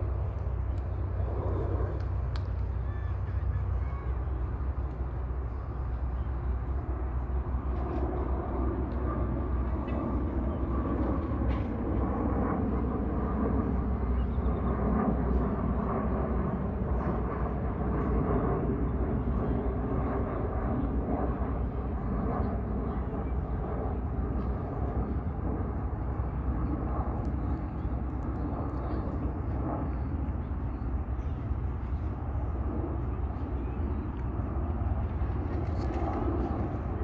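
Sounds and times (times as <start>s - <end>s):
jet engines rumbling overhead: 0.0s - 37.0s.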